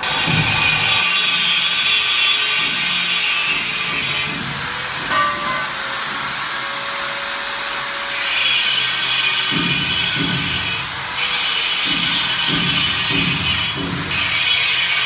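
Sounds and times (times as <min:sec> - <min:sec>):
grinder cutting metal bar: 0:00.0 - 0:15.0.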